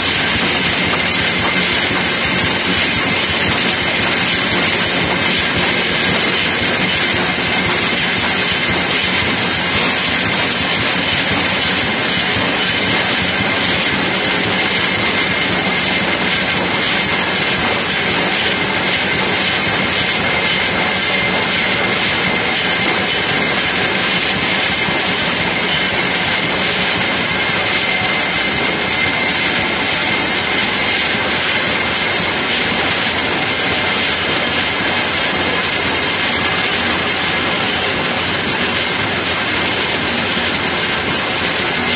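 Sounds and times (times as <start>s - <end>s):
industrial machine drone: 0.0s - 41.9s.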